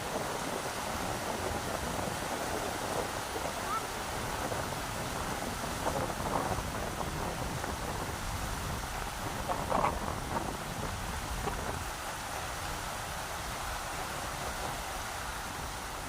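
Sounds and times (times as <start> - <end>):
rushing river water: 0.0 - 16.0.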